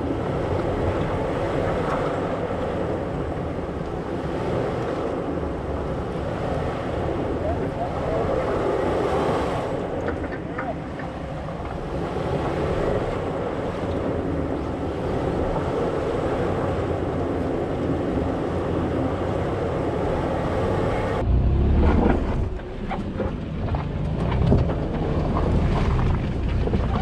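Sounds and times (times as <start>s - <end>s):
car engine and tyre noise: 0.0s - 27.0s
deep rumble with crackles: 0.0s - 27.0s.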